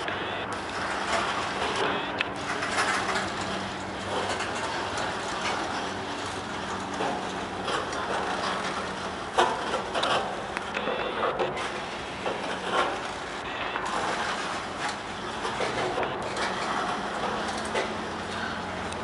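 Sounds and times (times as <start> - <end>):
train cars clanking: 0.6 - 19.0.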